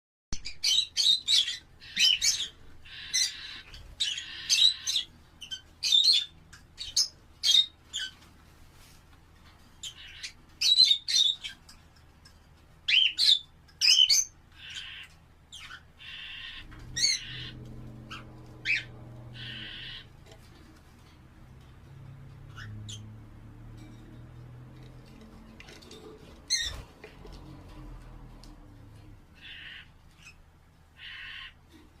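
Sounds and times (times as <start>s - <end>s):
lovebirds chirping and squawking: 0.4s - 32.0s.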